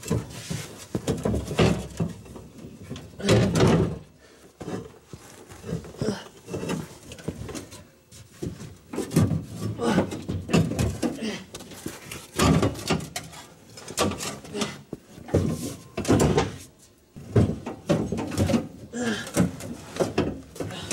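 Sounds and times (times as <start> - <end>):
clunks and knocks of handling: 0.0 - 20.9.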